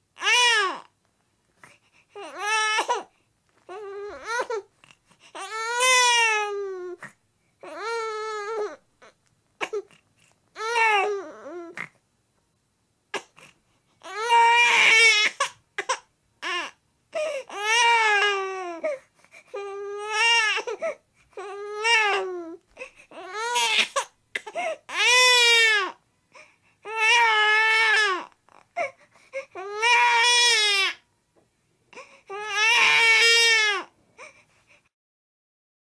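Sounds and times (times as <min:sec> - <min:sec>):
baby whining: 0:00.2 - 0:00.9, 0:01.6 - 0:12.0, 0:13.1 - 0:31.0, 0:31.9 - 0:34.4.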